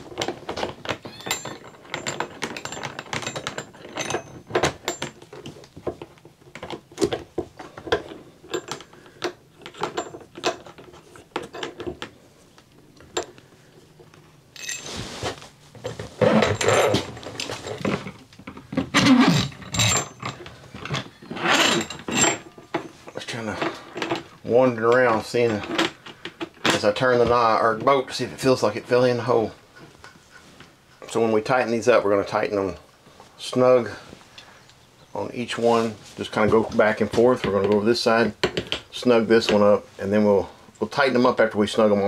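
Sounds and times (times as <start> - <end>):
scraping and rustling: 0.0 - 31.7, 32.5 - 37.7.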